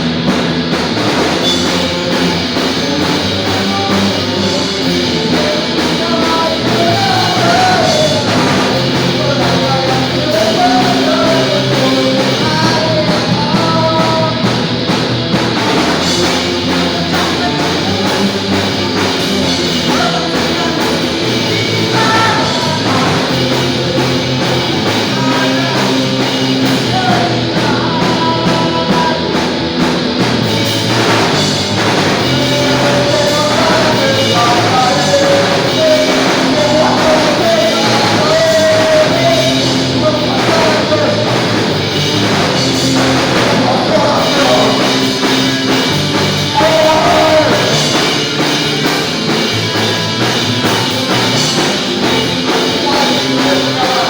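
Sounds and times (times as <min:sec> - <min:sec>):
punk rock band playing: 0:00.0 - 0:54.0
person singing: 0:01.2 - 0:29.8, 0:30.4 - 0:54.0.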